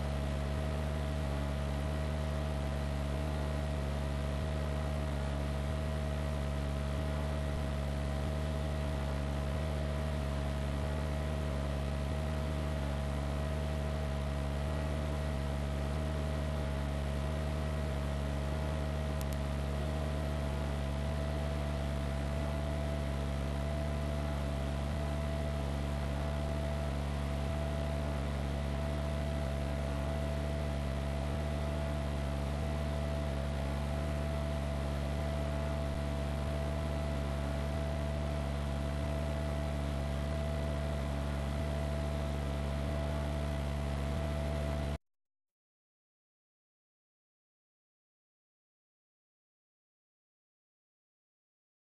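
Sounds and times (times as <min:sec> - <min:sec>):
helicopter rotor and engine drone: 0:00.0 - 0:44.9
constant whine: 0:00.0 - 0:45.0.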